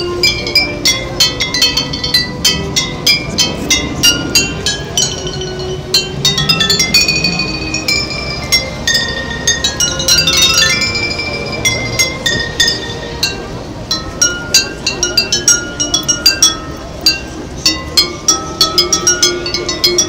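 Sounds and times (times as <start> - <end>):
glass bottles struck playing melody: 0.0 - 20.0.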